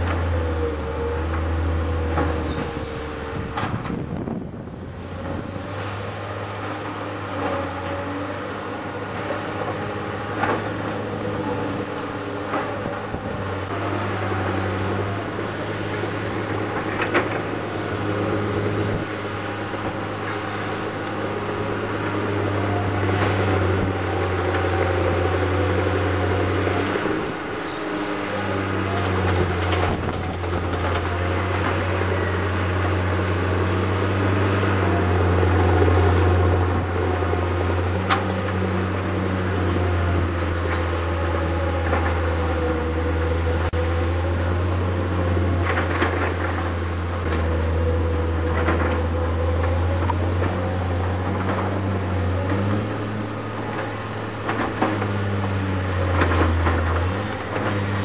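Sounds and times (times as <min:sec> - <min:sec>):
diesel engines of earthmoving machines: 0:00.0 - 0:58.0.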